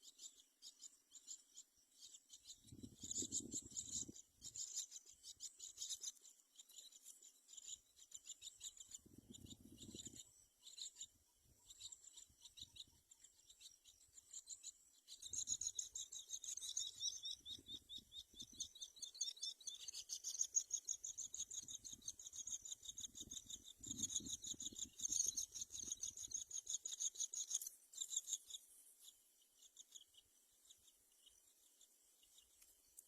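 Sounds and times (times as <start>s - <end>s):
nestlings chirping: 0.0s - 33.0s.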